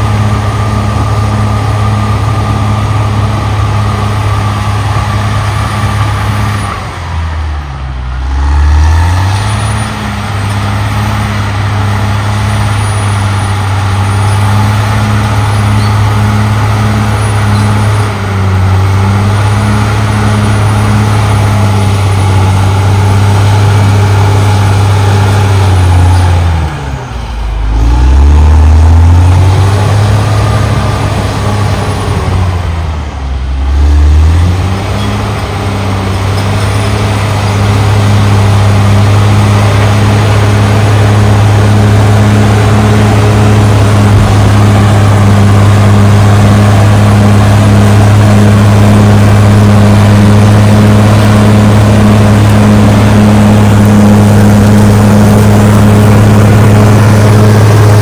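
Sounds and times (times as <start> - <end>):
bulldozer diesel engine: 0.0 - 58.0
dozer blade pushing dirt: 0.0 - 58.0.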